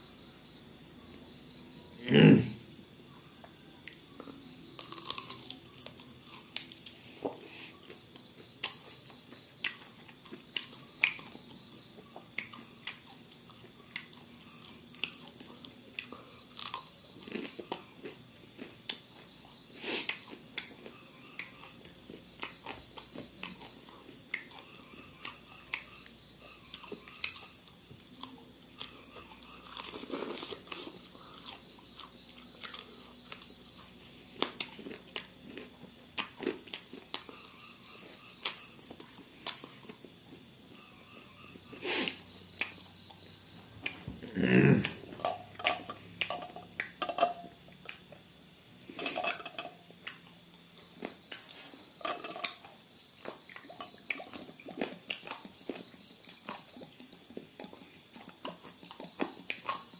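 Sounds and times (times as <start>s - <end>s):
chewing fried meat: 3.6s - 59.9s
crunchy bites: 3.8s - 59.9s.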